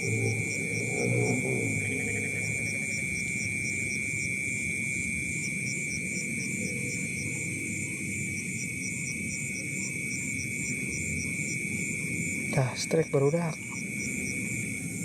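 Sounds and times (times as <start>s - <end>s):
frogs croaking: 0.0s - 15.0s
high-pitched insect trill: 0.0s - 15.0s.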